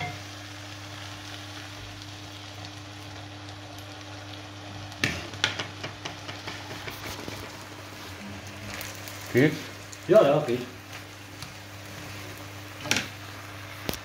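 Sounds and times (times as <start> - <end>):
pasta water bubbling and sizzling: 0.0 - 14.0.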